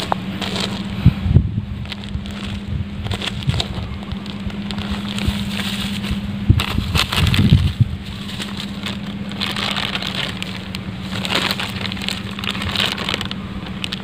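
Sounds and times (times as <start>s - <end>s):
plastic bag crinkling: 0.0s - 1.1s, 1.7s - 14.0s
soil scraping: 0.0s - 14.0s
steady low hum: 0.0s - 14.0s.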